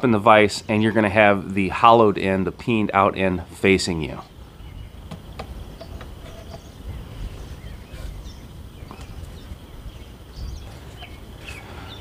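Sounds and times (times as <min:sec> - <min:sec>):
low background rumble: 0:01.5 - 0:12.0.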